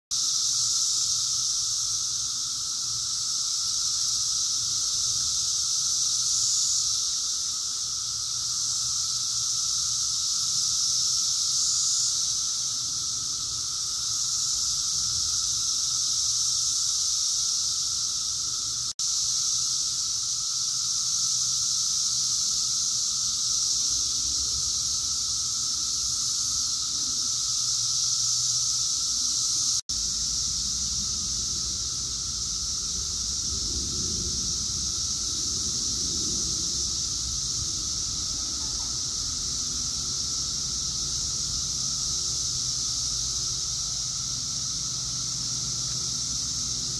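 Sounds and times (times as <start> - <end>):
cicadas droning: 0.1 - 46.9.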